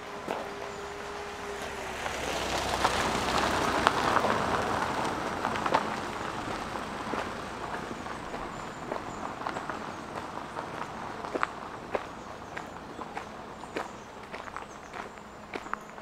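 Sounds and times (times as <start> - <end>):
vehicle passing: 0.0 - 16.0
footsteps on a path: 0.1 - 16.0.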